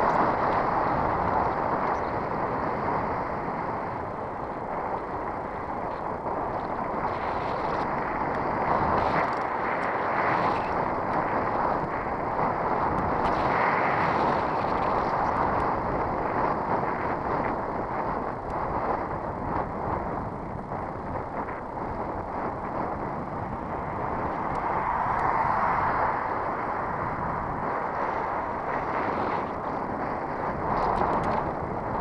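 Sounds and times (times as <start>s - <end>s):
bicycle tyres on asphalt: 0.0s - 32.0s
wind noise on microphone: 0.0s - 32.0s.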